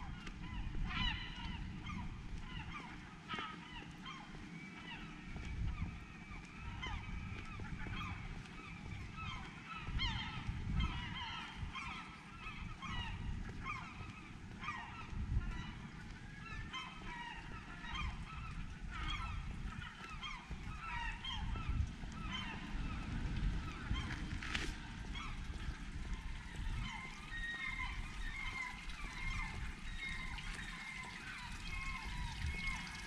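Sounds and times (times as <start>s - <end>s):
flock of birds calling: 0.0s - 33.0s.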